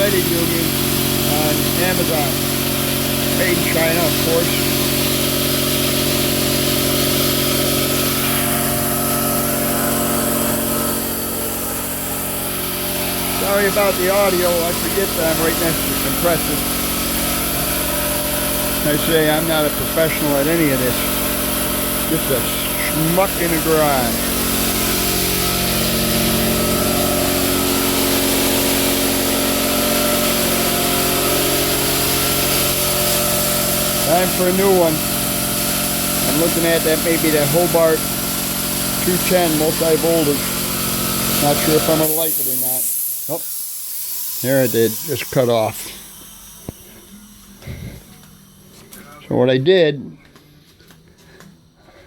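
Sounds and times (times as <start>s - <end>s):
air compressor running: 0.0s - 52.0s.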